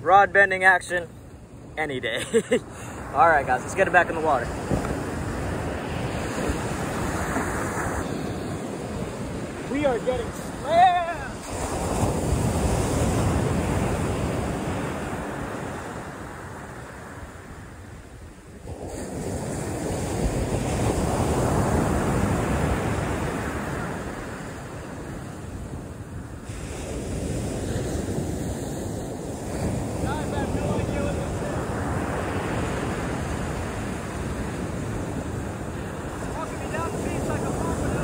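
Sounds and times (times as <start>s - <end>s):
ocean surf breaking: 0.0s - 38.0s
wind buffeting microphone: 2.8s - 38.0s.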